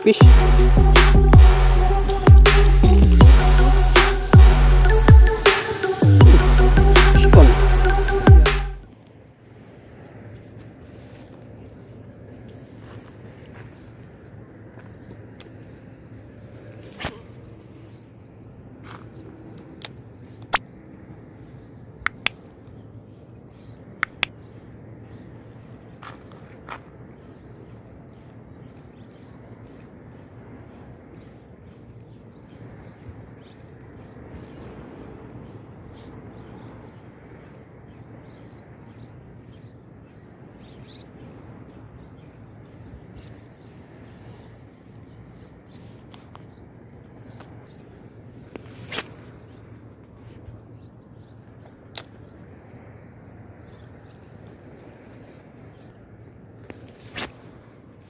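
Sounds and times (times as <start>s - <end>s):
low outdoor hiss: 0.0s - 58.0s.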